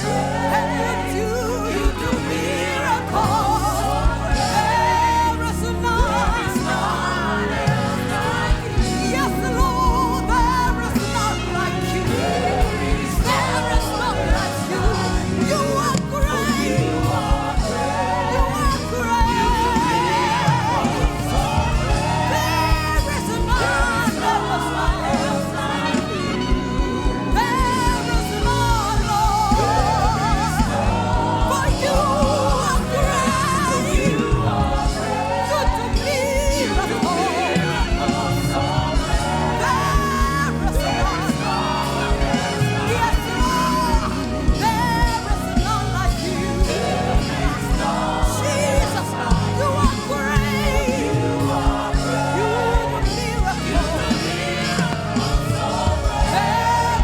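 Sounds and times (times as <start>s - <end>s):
band with steady beat: 1.7s - 57.0s.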